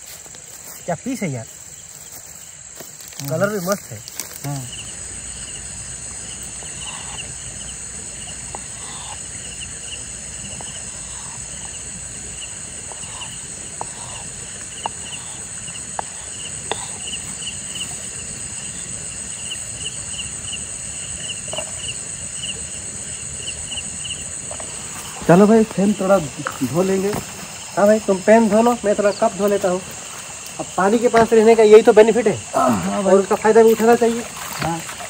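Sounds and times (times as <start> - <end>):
crickets trilling: 0.0 - 35.0
insects chirping: 0.0 - 35.0
stream water running: 0.0 - 35.0.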